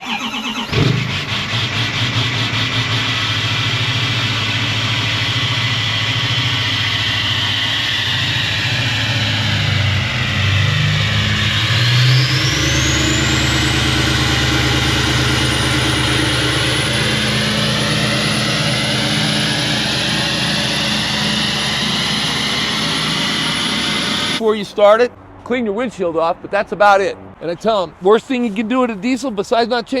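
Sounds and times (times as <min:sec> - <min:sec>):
diesel engine starting and idling: 0:00.0 - 0:25.4.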